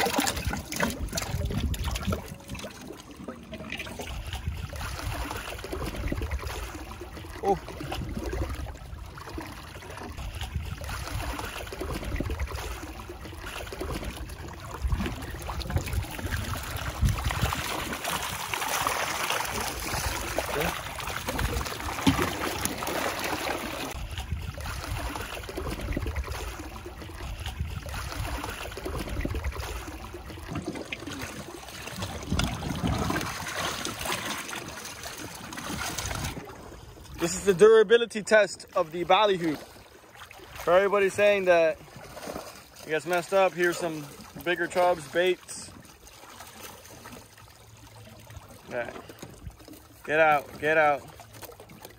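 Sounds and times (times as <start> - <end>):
water splashing and trickling: 0.0 - 51.9.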